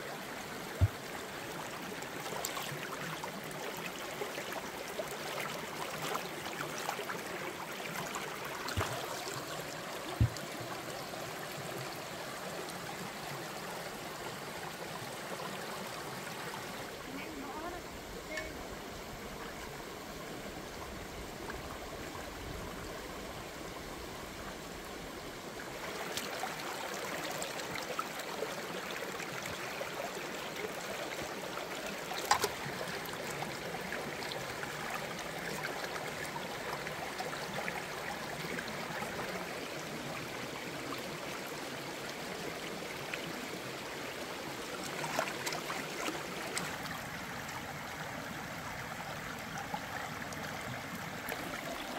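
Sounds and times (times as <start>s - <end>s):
rocky stream babbling: 0.0s - 51.9s.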